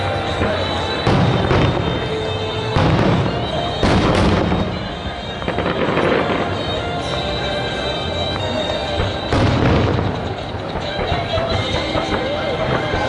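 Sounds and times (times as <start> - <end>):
fireworks bangs: 0.0 - 13.0
fireworks crackling: 0.0 - 13.0
music: 0.0 - 13.0.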